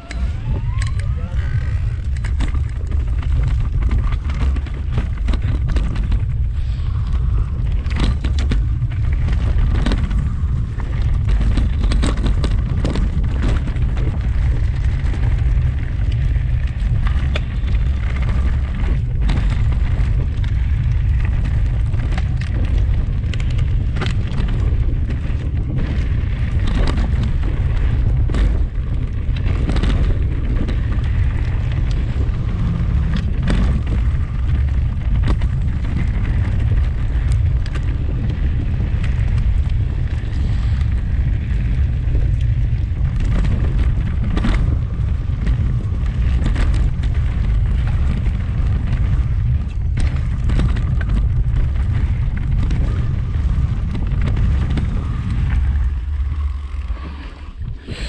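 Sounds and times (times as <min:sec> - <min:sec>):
bike clicking and rattling: 0:00.0 - 0:58.0
wind buffeting microphone: 0:00.0 - 0:58.0.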